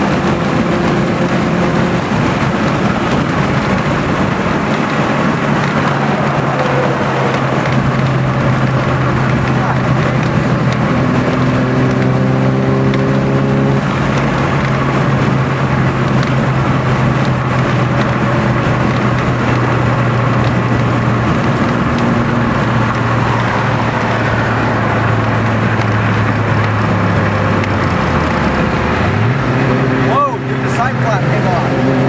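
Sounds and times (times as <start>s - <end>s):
road and wind noise: 0.0s - 32.0s
vehicle engine running: 0.0s - 32.0s.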